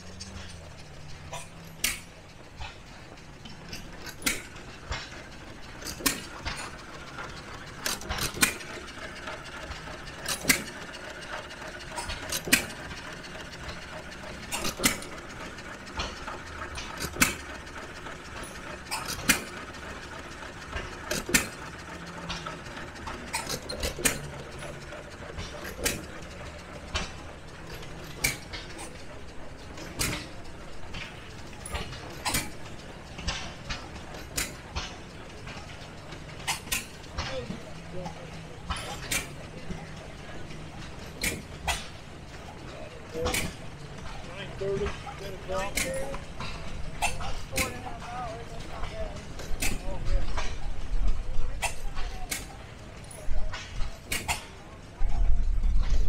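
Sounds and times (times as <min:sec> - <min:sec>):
mechanical clicking: 0:00.0 - 0:54.6.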